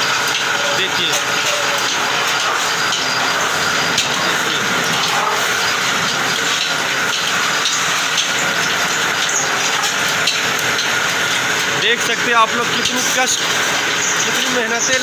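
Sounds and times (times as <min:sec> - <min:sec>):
metal-spinning lathe hissing: 0:00.0 - 0:15.0.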